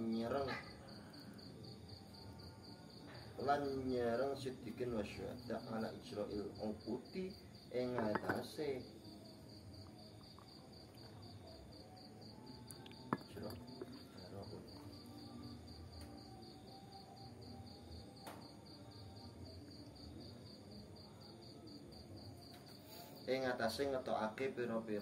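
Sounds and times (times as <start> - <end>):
cricket chirping: 0.0 - 25.0
faint room noise: 0.0 - 25.0.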